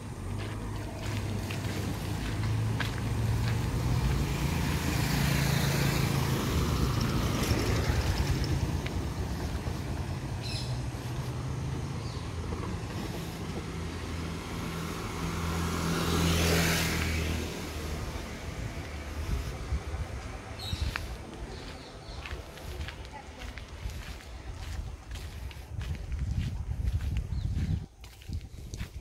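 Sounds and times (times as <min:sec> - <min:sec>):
vehicle passing by: 0:00.0 - 0:28.9
vehicle engine humming: 0:00.0 - 0:29.0.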